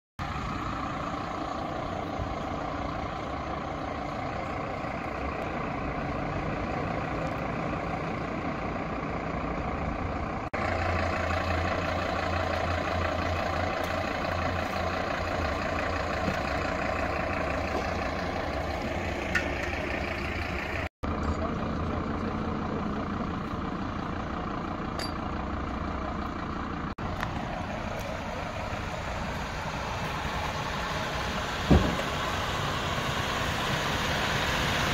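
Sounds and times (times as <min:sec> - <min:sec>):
diesel trucks idling: 0:00.2 - 0:34.9.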